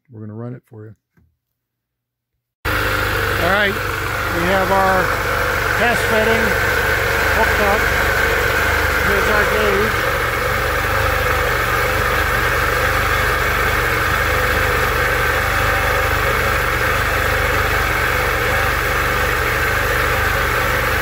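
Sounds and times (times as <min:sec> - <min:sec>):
two-stroke engine idling: 0:02.7 - 0:21.0.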